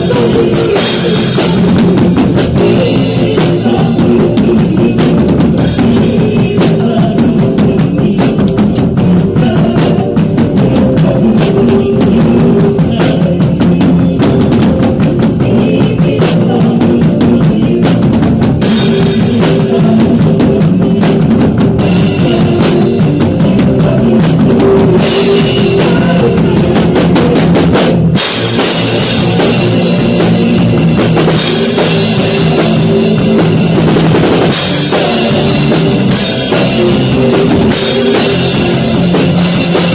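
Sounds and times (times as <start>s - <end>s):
drum kit: 0.0s - 39.9s
worship band music: 0.0s - 39.9s.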